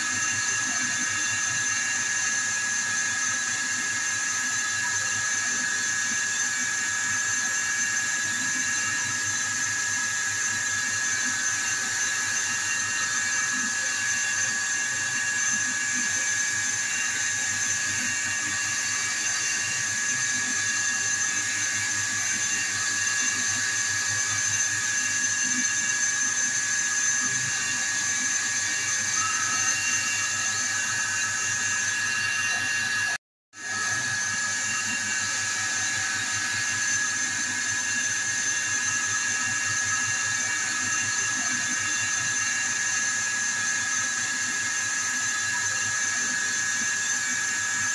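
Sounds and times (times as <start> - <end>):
lathe running with high whine: 0.0 - 47.9.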